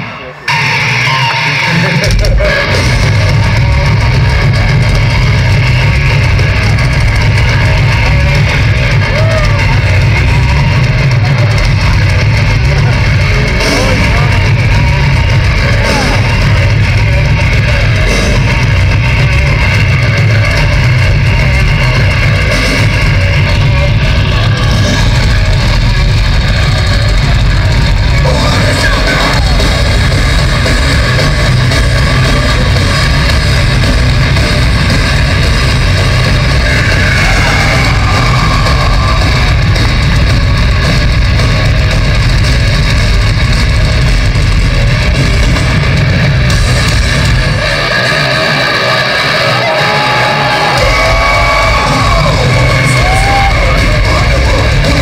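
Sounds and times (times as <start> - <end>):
distorted electric guitars: 0.0 - 55.0
drum kit: 0.0 - 55.0
heavy metal band playing live: 0.0 - 55.0.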